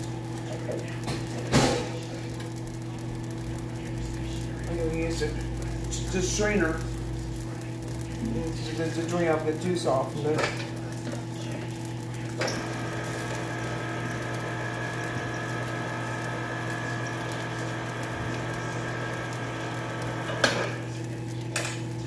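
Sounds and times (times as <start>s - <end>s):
electric can opener motor running: 0.0s - 22.0s.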